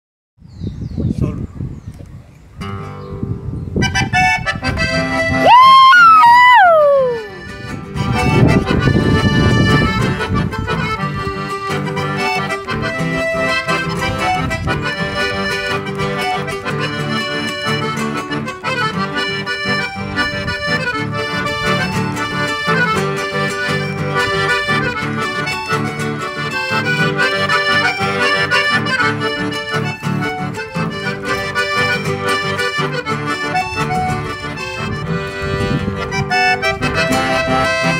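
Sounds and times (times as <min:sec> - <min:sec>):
acoustic guitar accompaniment: 0:02.6 - 0:37.9
accordion melody: 0:02.8 - 0:37.9.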